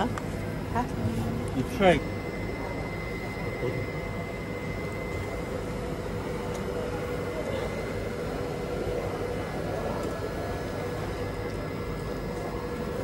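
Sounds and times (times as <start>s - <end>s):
faint constant hum: 0.0s - 13.0s
passenger cabin drone: 0.0s - 13.0s.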